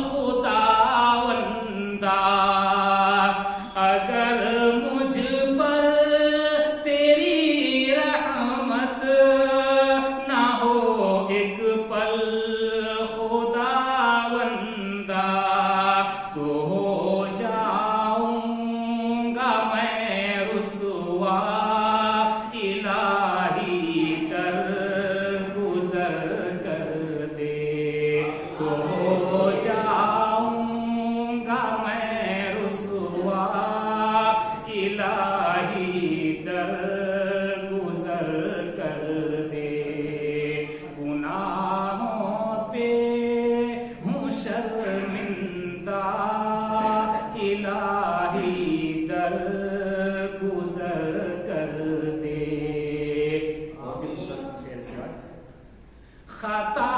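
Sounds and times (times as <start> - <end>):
man chanting into a microphone: 0.0 - 55.4, 56.3 - 56.9.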